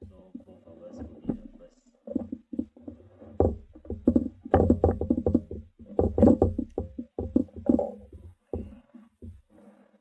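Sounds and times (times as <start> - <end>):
parcel knocks taps and rustles: 0.0 - 9.6.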